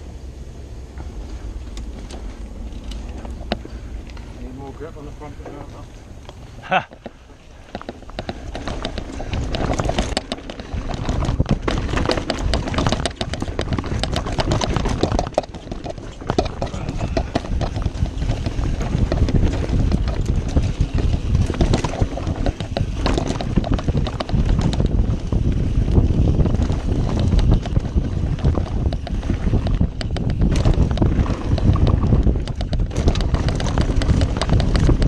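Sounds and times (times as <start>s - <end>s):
tyres rumbling on dirt: 0.0s - 35.0s
bike clicks knocks and rattles: 1.7s - 4.4s, 6.1s - 35.0s.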